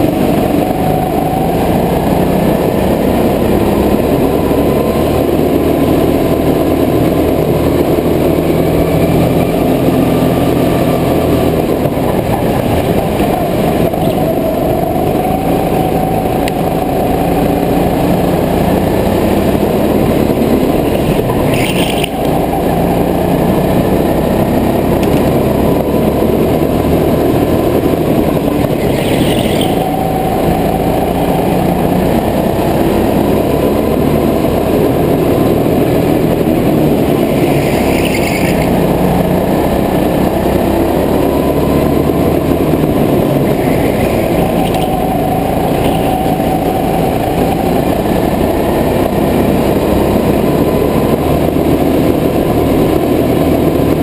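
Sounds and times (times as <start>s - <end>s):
go-kart engine running: 0.0s - 54.0s.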